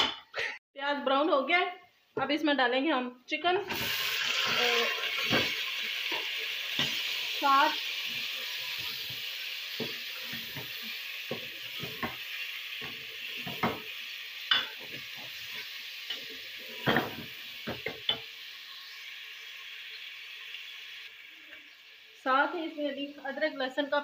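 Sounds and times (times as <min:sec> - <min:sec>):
chicken sizzling in hot oil: 0:03.7 - 0:24.0.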